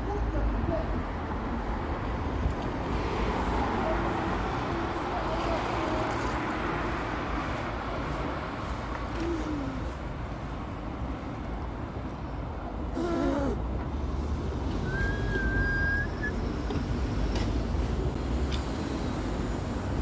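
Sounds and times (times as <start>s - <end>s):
subway low rumble and hum: 0.0s - 20.0s.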